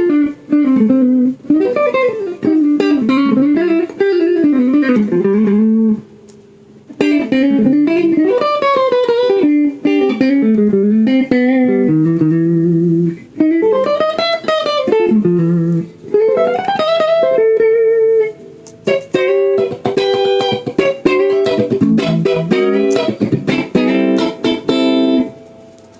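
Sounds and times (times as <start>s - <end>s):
guitar melody with bending notes: 0.0s - 25.9s.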